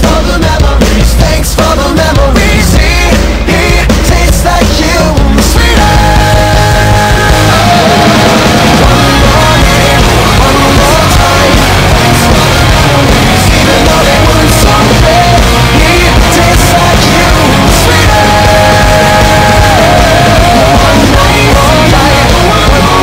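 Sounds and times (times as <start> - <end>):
loud rock music with singer: 0.0 - 23.0.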